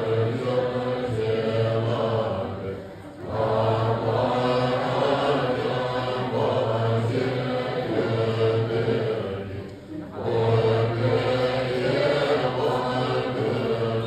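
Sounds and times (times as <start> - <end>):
monks chanting in unison: 0.0 - 14.0.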